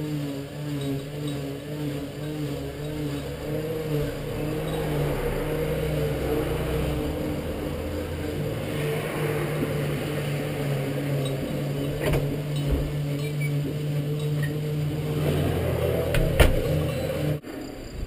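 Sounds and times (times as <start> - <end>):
motor humming: 0.0 - 17.4.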